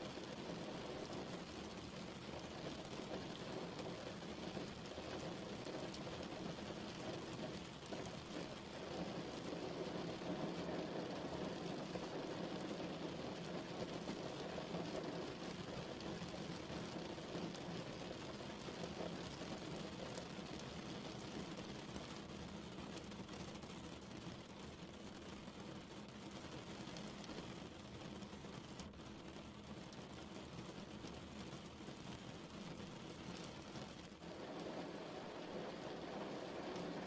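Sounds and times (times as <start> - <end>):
steady rain patter: 0.0 - 37.0.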